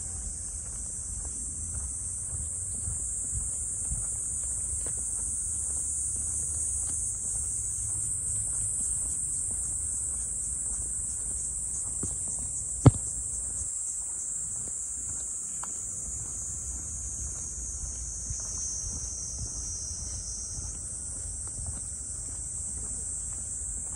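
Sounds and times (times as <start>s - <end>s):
insect chorus: 0.0s - 23.9s.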